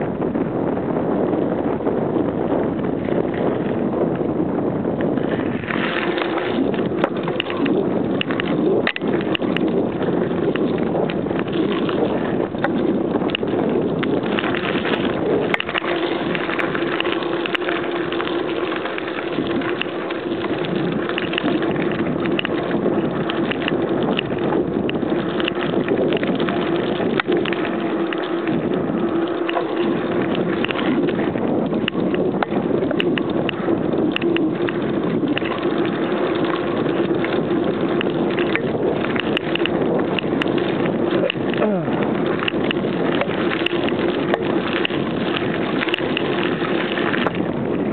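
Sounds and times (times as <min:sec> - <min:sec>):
bicycle tyres on dirt path: 0:00.0 - 0:47.9
small clicks and rattles: 0:02.7 - 0:47.9.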